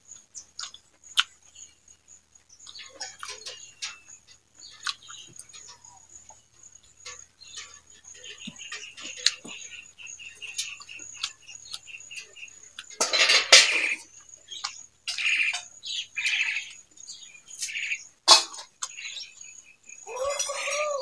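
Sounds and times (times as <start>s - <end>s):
faint high-pitched chirping: 0.0s - 21.0s.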